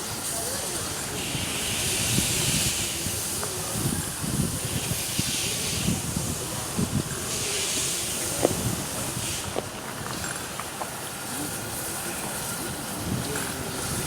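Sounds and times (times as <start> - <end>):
steam locomotive hissing: 0.0 - 14.0.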